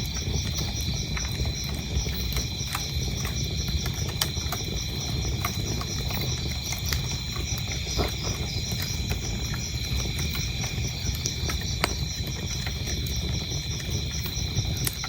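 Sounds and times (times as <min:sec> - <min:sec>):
crickets chirping: 0:00.0 - 0:15.0
wood fire crackling: 0:00.0 - 0:15.0.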